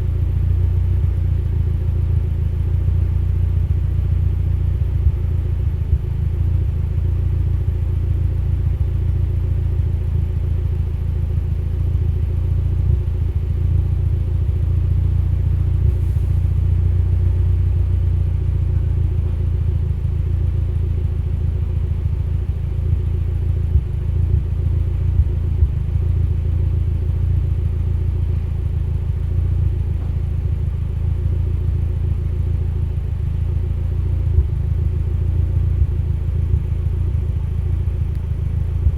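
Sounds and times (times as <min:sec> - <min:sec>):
car engine idling with stumbles: 0:00.0 - 0:38.9.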